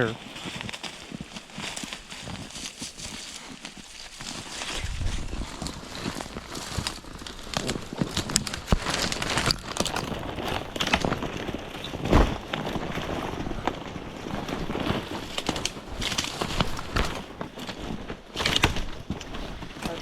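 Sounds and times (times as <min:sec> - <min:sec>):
footsteps crunching through snow: 0:00.0 - 0:20.0
twigs and branches snapping: 0:00.4 - 0:20.0.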